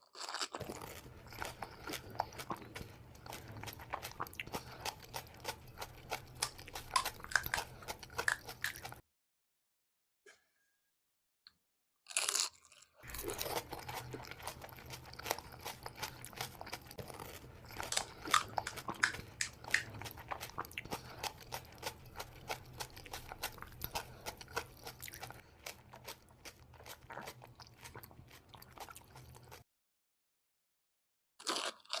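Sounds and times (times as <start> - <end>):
crunching bite into crisp shell: 0.0 - 9.0, 12.1 - 29.6
wet crunchy chewing: 0.0 - 9.0, 12.1 - 29.6, 31.4 - 32.0.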